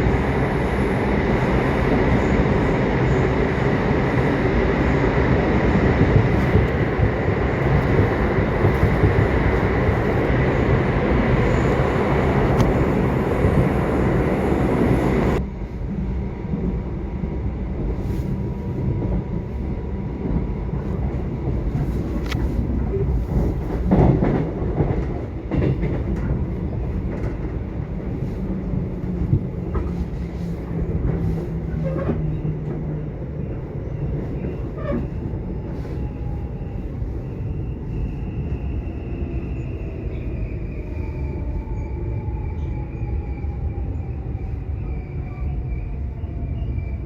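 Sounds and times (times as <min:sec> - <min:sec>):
subway train rumbling: 0:00.0 - 0:47.0.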